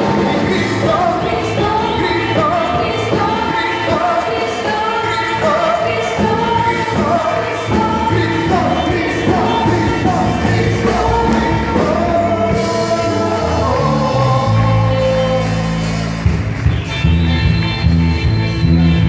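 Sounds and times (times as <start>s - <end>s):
group of people singing: 0.0s - 16.2s
worship band playing: 0.0s - 19.0s.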